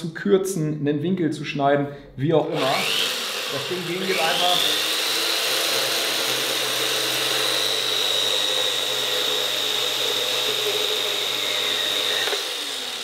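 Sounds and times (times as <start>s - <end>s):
band saw cutting metal rod: 2.5s - 13.0s.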